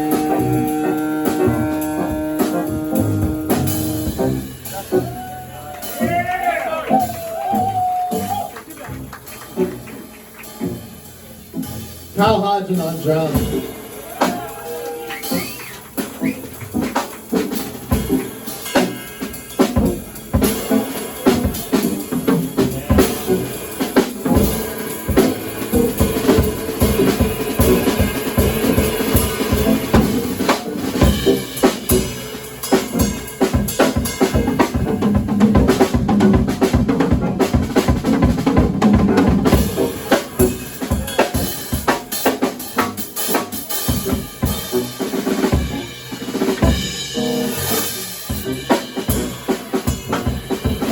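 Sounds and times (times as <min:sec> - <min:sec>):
drum solo: 0:00.0 - 0:50.9.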